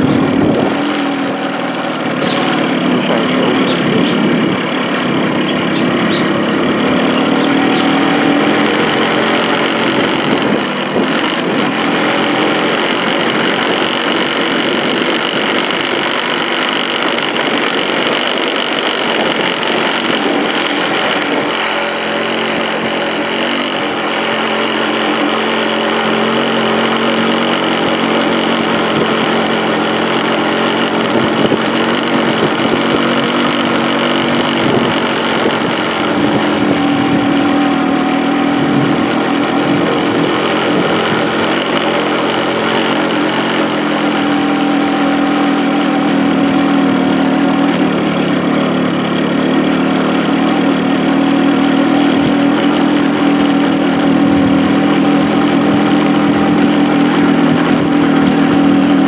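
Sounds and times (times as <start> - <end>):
vehicle engine on gravel road: 0.0 - 59.0.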